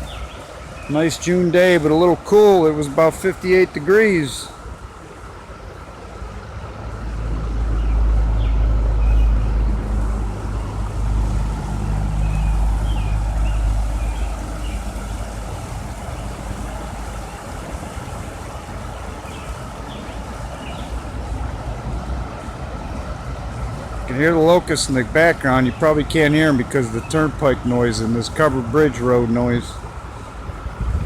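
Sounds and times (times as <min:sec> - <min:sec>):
cicada chorus drone: 0:00.0 - 0:30.8
road traffic rumble: 0:00.0 - 0:31.0.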